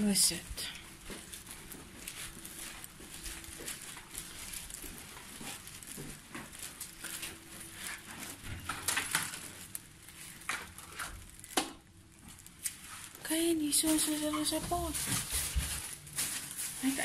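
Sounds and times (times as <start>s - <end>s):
footsteps: 0.0s - 11.3s, 12.2s - 17.0s
clothes and backpack rustling: 0.0s - 11.5s, 12.1s - 17.0s.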